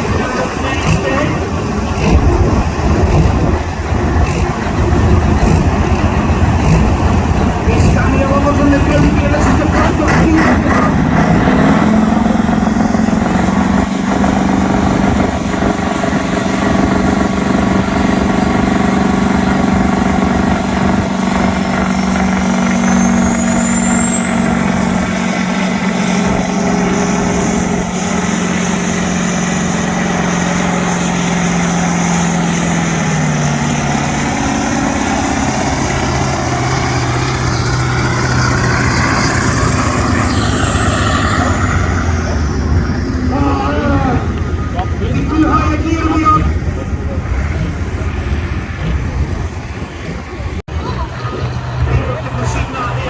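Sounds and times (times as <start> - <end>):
tractor engine running at high revs: 0.0 - 53.0.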